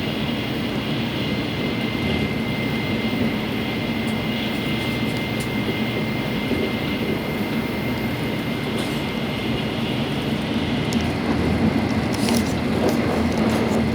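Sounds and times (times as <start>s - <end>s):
train rushing roar: 0.0s - 13.9s.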